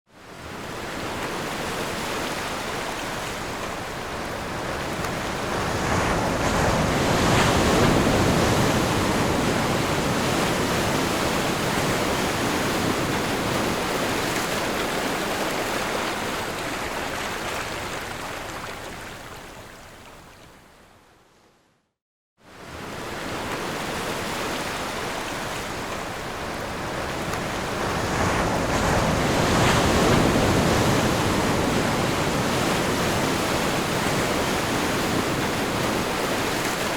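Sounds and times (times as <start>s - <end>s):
ocean surf breaking: 0.8s - 18.5s, 22.6s - 36.9s.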